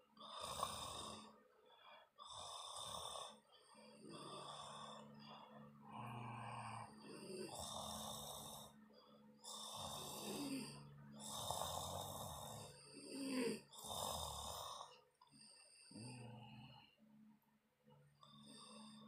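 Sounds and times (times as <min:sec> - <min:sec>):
person snoring: 0:00.2 - 0:01.4, 0:02.2 - 0:17.0, 0:18.2 - 0:19.0.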